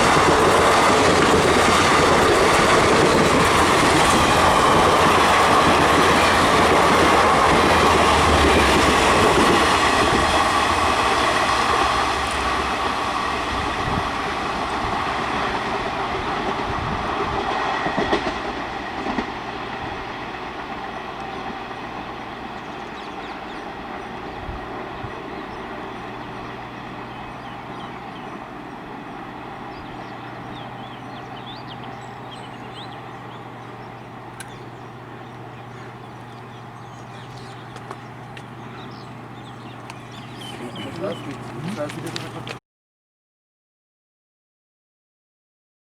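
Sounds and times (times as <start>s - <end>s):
train wheels clacking over rail joints: 0.0s - 24.1s, 25.9s - 42.6s.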